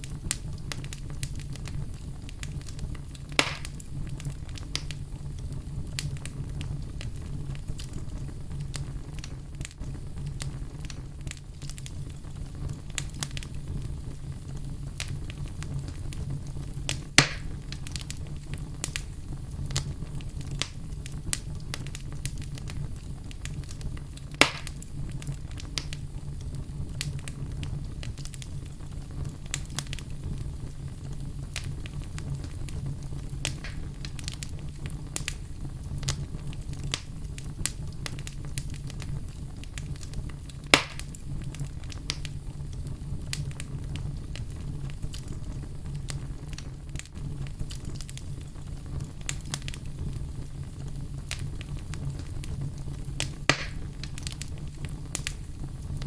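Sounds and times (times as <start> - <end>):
fireplace fire crackling: 0.0 - 56.0
loud fire pops: 0.0 - 56.0.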